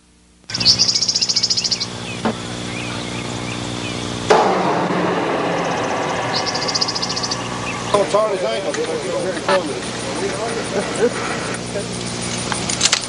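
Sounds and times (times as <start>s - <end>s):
steady low hum: 0.1s - 13.0s
fast-pulsing high buzz: 0.5s - 13.0s
loud rough noise: 1.8s - 13.0s.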